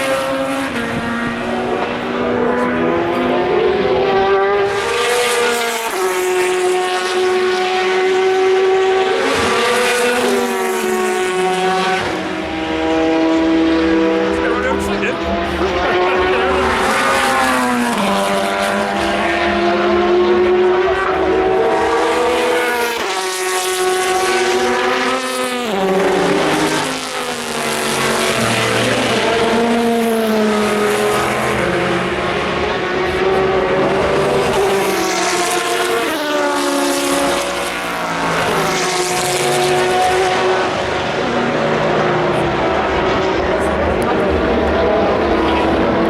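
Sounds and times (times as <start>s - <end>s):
race cars passing by: 0.0s - 46.0s.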